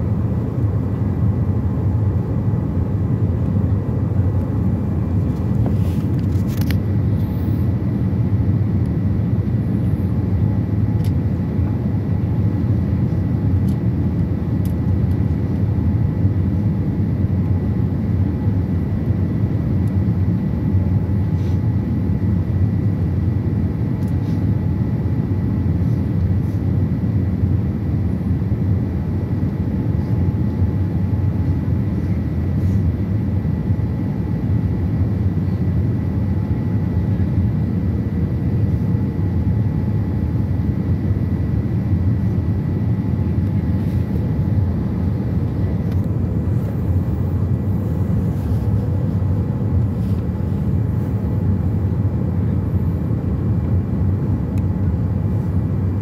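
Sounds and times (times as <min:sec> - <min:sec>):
airliner cabin engine roar: 0:00.0 - 0:56.0
faint steady whine: 0:00.0 - 0:56.0.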